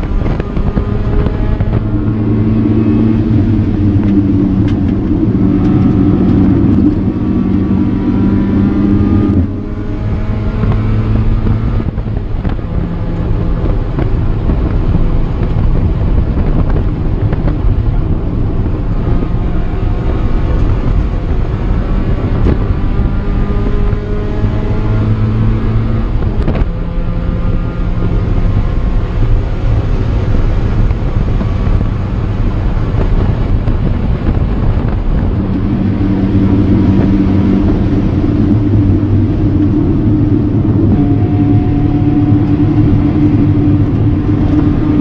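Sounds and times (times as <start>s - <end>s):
car engine running hard: 0.0s - 45.0s
wind noise: 0.0s - 45.0s.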